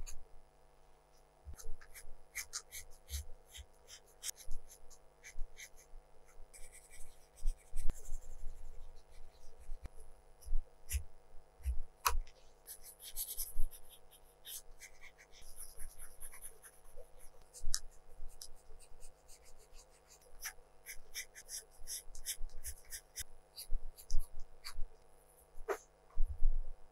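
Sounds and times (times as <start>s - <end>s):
pencil scratching on paper: 1.5s - 11.1s, 12.6s - 25.8s.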